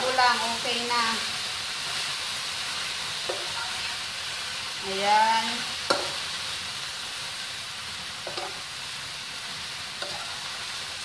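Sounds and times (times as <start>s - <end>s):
vegetables and chicken sizzling in oil: 0.0s - 11.0s.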